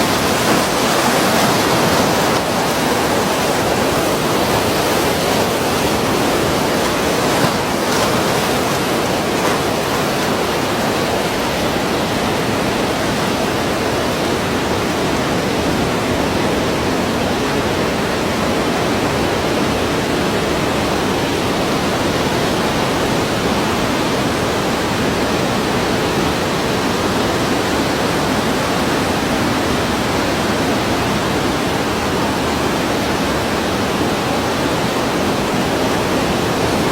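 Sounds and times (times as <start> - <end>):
surf rushing: 0.0 - 36.9.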